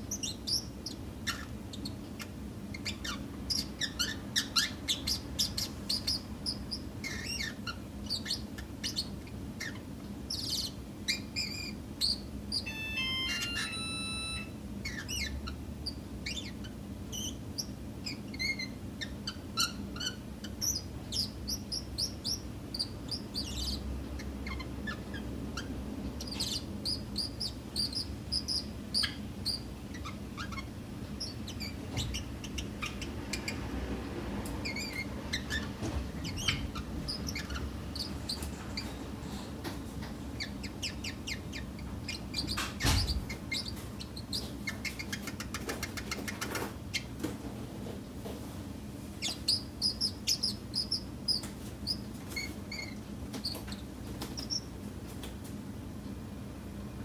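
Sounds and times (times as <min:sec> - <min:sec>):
small birds chirping: 0:00.0 - 0:47.2, 0:49.1 - 0:54.8
steady low hum: 0:00.0 - 0:57.0.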